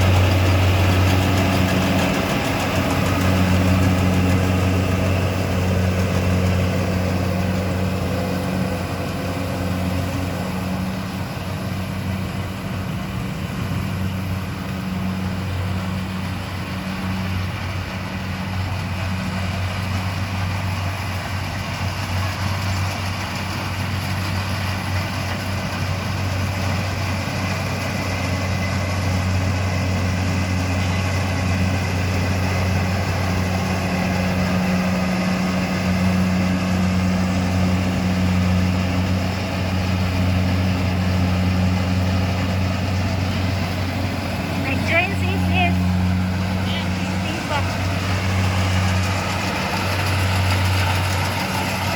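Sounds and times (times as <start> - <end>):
machine engine droning: 0.0 - 51.9.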